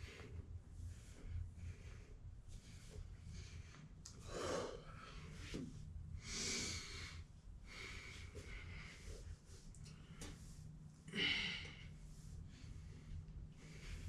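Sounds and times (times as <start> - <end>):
person breathing hard: 0.0 - 5.6, 6.2 - 14.0
low steady hum: 0.0 - 14.0.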